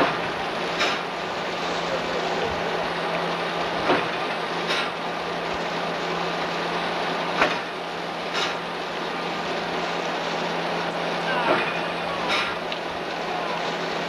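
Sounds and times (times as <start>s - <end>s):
vehicle running hum: 0.0s - 14.0s.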